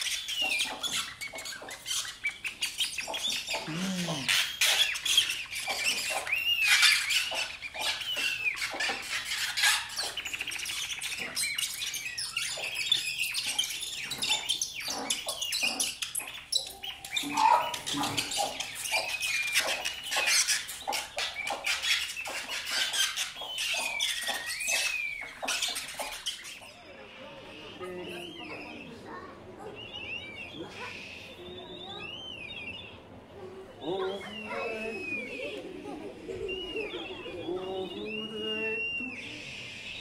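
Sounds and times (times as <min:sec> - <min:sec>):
bird-like chirps and squeaks: 0:00.0 - 0:33.0.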